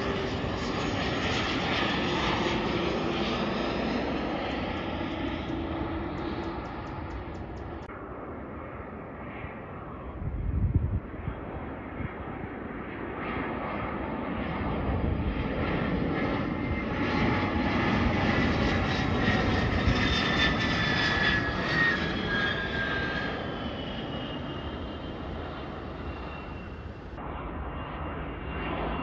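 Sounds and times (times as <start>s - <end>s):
jet engines passing overhead: 0.0s - 29.0s.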